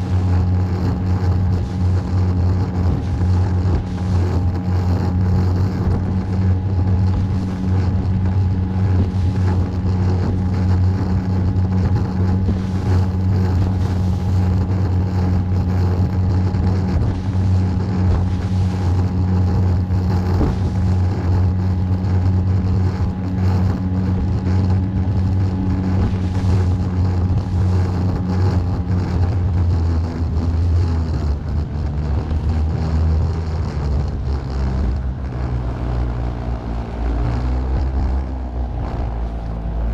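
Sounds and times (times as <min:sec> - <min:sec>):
boat motor droning: 0:00.0 - 0:39.9
wind and water rushing: 0:00.0 - 0:39.9.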